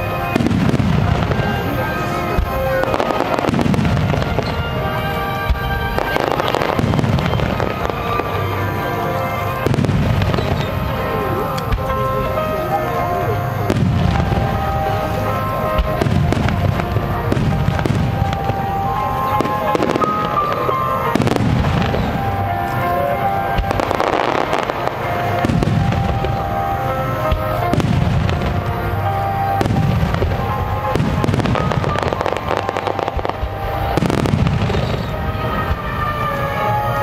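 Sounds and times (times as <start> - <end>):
fireworks booming and cracking: 0.0 - 37.0
music playing: 0.0 - 37.0.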